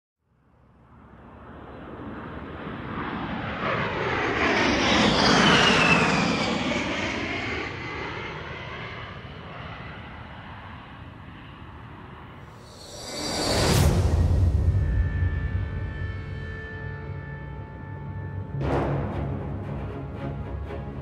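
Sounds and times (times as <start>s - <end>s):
model jet turbine whine: 1.3s - 18.5s.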